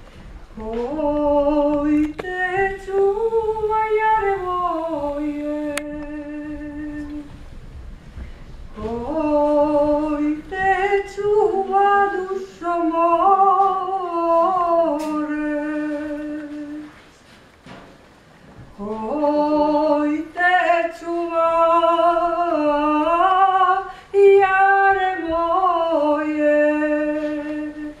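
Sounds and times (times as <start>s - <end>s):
woman singing unaccompanied: 0.5s - 7.4s, 8.7s - 17.0s, 18.7s - 28.0s.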